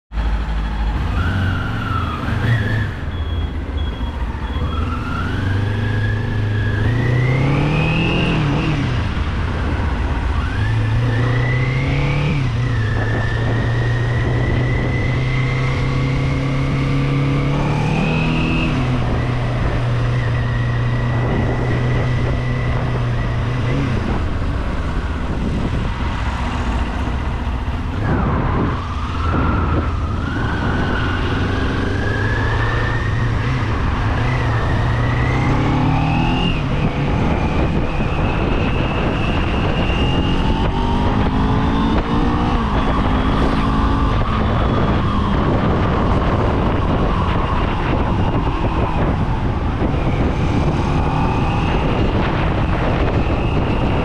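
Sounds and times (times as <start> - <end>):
motorcycle engine shifting gears: 0.2 - 54.0
wind rushing: 5.5 - 54.0.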